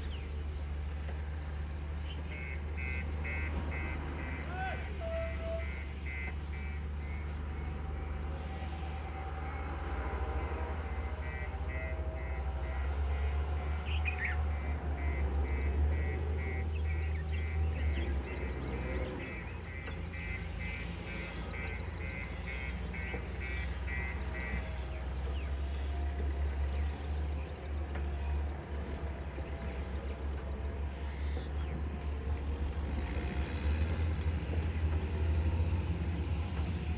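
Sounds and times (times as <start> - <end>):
diesel machinery rumbling: 0.0 - 36.9.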